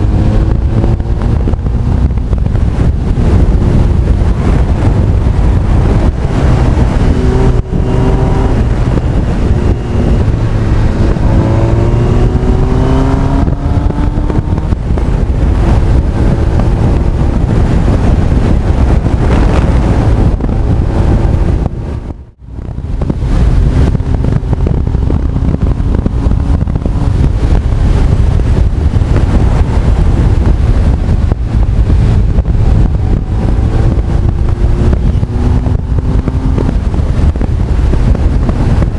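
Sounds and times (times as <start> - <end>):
heavy wind noise on microphone: 0.0 - 38.9
motorcycle engine accelerating: 0.0 - 38.9.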